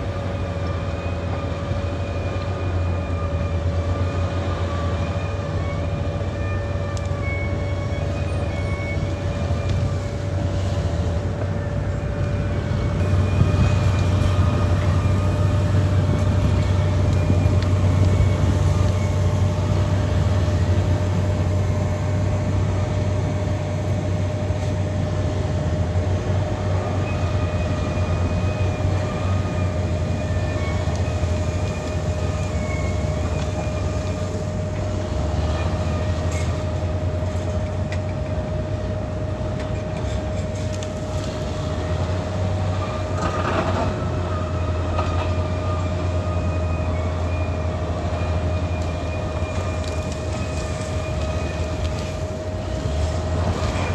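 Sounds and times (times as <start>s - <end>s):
bulldozer diesel engine rumbling: 0.0s - 53.9s.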